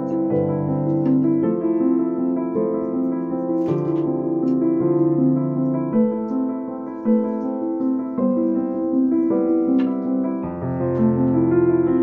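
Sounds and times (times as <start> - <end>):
slow keyboard melody: 0.0 - 12.0.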